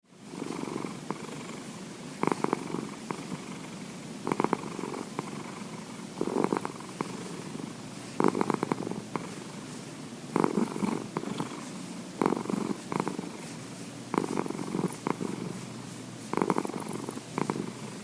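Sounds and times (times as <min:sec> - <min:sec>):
cat purring: 0:00.2 - 0:18.0.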